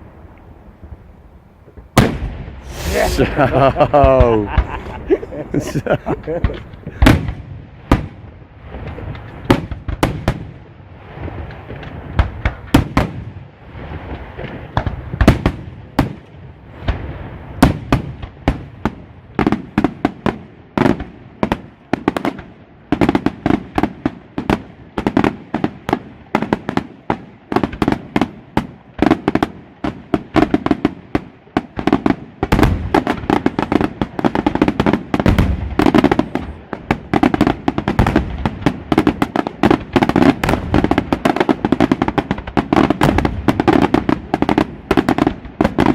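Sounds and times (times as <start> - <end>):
fireworks exploding: 1.6 - 45.9.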